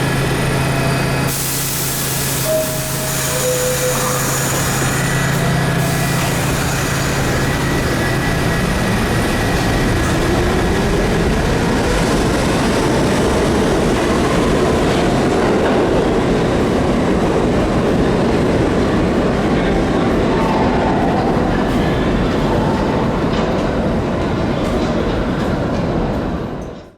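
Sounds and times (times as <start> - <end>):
subway wheel and rail noise: 0.0 - 26.9.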